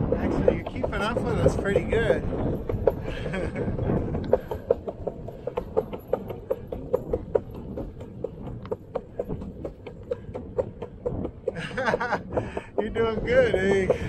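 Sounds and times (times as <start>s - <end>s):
low rolling rumble: 0.0s - 14.0s
skateboard wheels clacking over joints: 0.0s - 14.0s.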